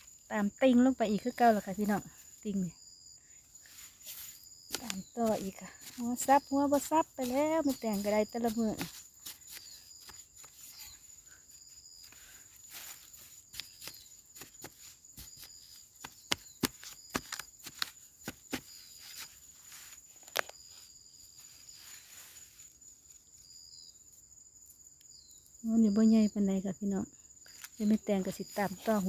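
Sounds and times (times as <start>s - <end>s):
insects trilling and chirping: 0.0s - 29.0s.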